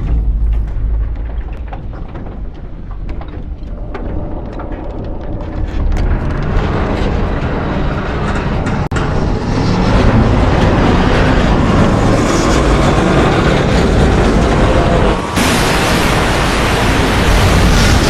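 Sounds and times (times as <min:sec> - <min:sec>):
loud dense rumble of ship sinking: 0:00.0 - 0:18.0.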